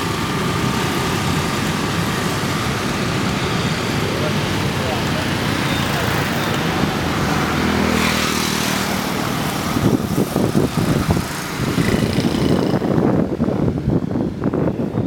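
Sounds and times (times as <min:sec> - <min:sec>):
cars going by: 0:00.0 - 0:15.0
motorbikes going by: 0:00.0 - 0:15.0.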